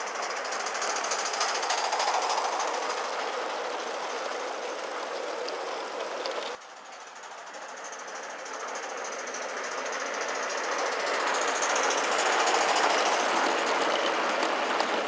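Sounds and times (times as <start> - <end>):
steam hiss: 0.0 - 15.0
steam locomotive exhaust beats: 0.0 - 15.0.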